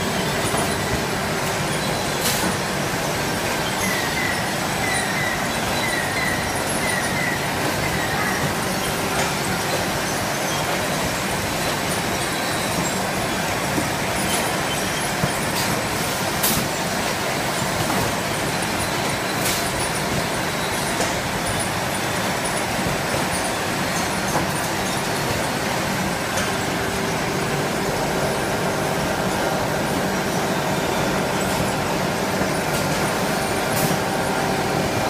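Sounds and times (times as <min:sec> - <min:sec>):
packing machine running: 0:00.0 - 0:35.0.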